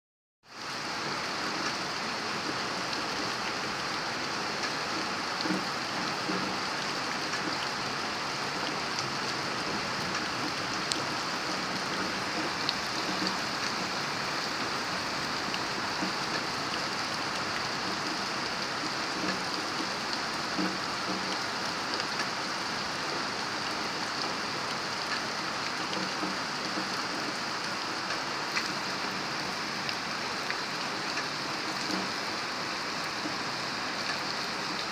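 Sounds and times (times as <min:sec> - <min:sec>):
raindrops ticking on surfaces: 0:00.5 - 0:34.9
steady rain falling: 0:00.5 - 0:34.9.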